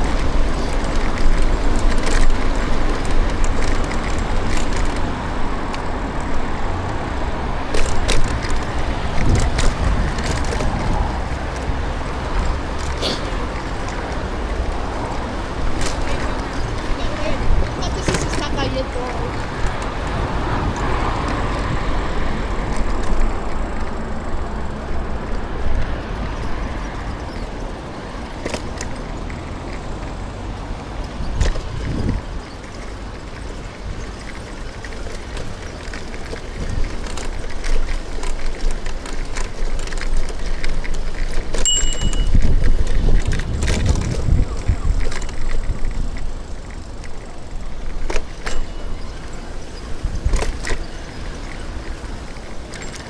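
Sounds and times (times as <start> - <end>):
city traffic rumble: 0.0 - 53.0
vehicles passing: 0.0 - 53.0.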